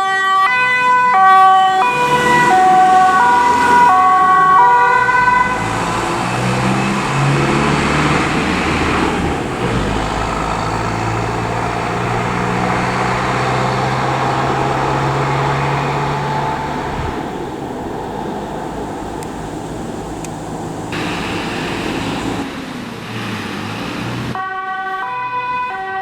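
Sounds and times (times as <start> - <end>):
road and tyre noise: 0.0 - 26.0
vehicle engine driving off: 1.8 - 24.4.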